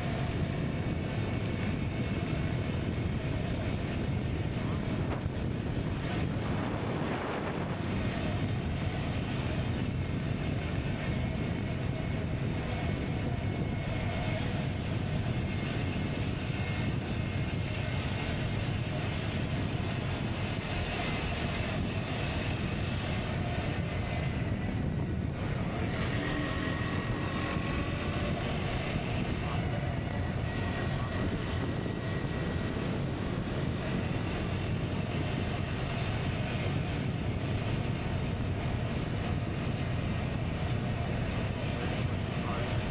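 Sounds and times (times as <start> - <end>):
wind noise on microphone: 0.0 - 42.9.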